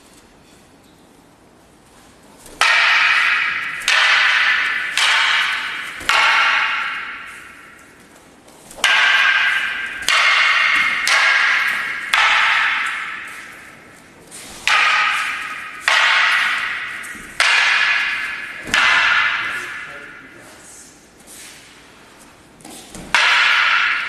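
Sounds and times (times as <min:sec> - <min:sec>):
wooden staffs clacking: 0:01.7 - 0:24.0.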